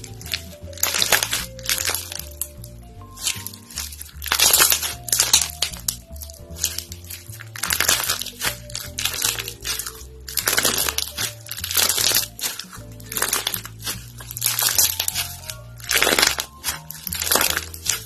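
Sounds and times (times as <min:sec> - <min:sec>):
slime crackling and popping: 0:00.0 - 0:18.0
upbeat background music: 0:00.0 - 0:18.0.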